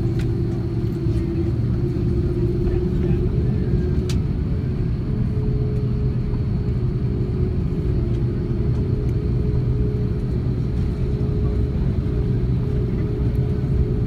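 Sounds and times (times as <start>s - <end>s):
airliner cabin rumble and hum: 0.0s - 14.0s.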